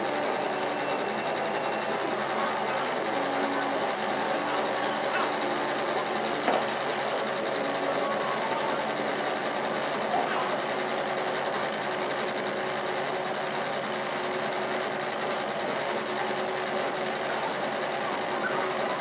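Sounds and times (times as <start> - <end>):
drawing machines whirring hum: 0.0 - 19.0.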